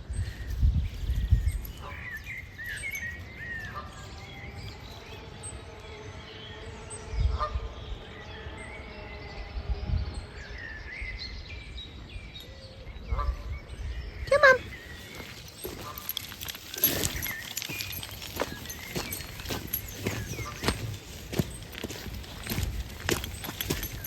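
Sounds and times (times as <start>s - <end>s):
small birds chirping and singing: 0.0s - 24.0s.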